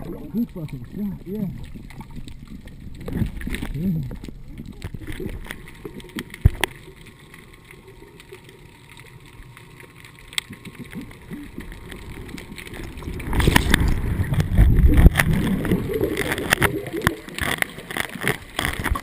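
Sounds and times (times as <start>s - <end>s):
low churning rush of water: 0.0s - 19.0s
muffled underwater hiss: 0.0s - 19.0s
underwater clicks: 0.0s - 19.0s.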